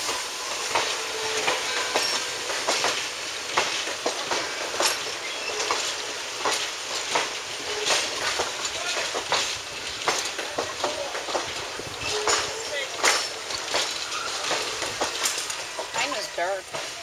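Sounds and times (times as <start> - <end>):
train wheels clicking over rail joints: 0.0 - 17.0.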